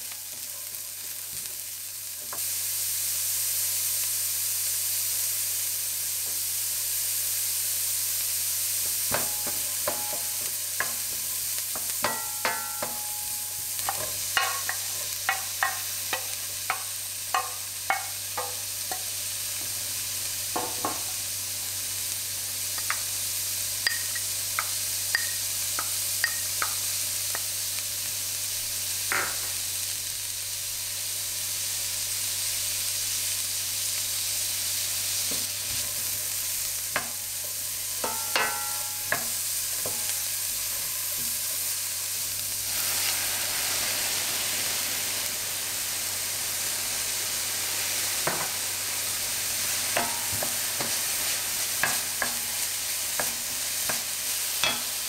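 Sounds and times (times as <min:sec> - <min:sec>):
vegetables sizzling in skillet: 0:00.0 - 0:55.0.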